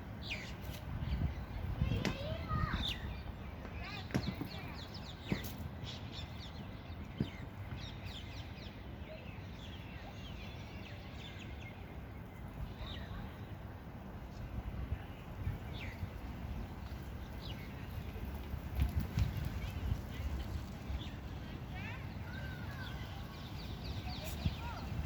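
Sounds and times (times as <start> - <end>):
outdoor background noise: 0.0 - 25.0
birds chirping: 0.2 - 13.6, 14.3 - 25.0.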